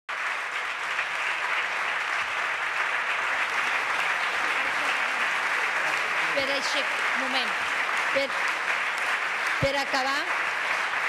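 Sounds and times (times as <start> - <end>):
crowd applauding: 0.1 - 11.0.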